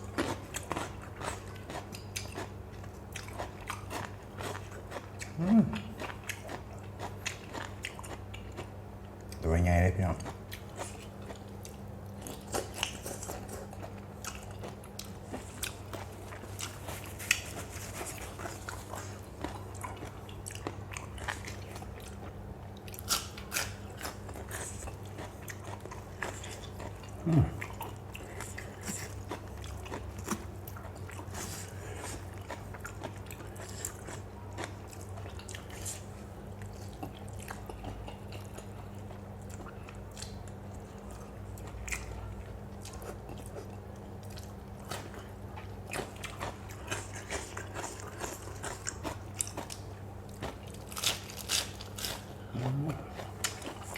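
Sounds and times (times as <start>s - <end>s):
person chewing and crunching: 0.0s - 53.9s
steady low hum: 0.0s - 53.9s.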